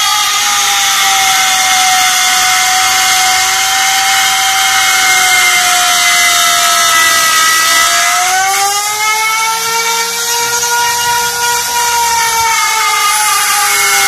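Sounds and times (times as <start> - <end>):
electric router whining: 0.0 - 14.0.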